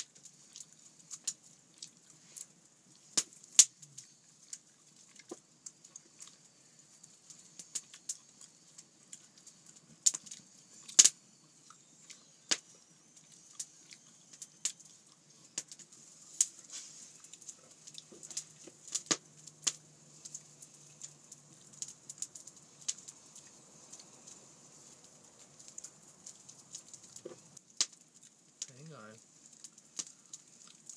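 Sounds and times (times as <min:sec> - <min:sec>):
faint steady hiss: 0:00.0 - 0:30.9
wood fire crackling and popping: 0:00.0 - 0:30.9.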